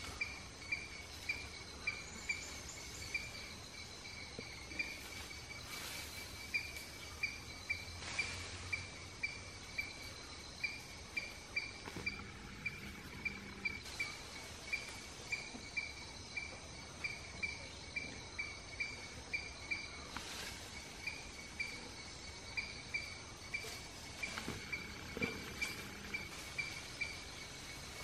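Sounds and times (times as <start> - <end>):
faint forest ambience hiss: 0.0 - 28.0
insect chirping: 0.0 - 28.0.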